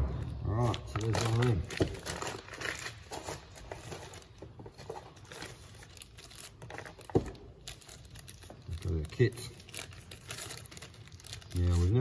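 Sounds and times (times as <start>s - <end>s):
plastic packets crinkling: 0.8s - 12.0s.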